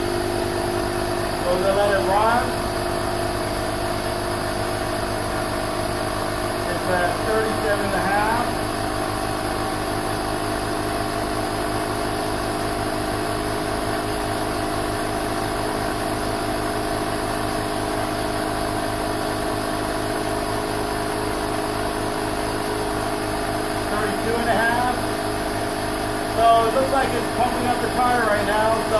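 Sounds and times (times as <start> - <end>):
tire inflator running: 0.0 - 28.9.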